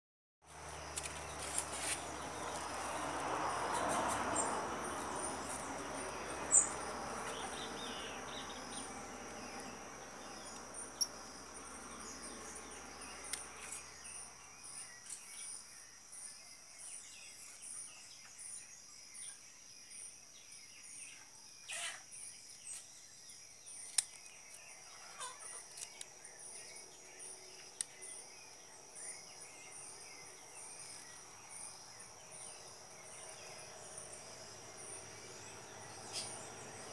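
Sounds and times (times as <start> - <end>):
insects trilling: 0.5 - 16.9, 20.8 - 36.9.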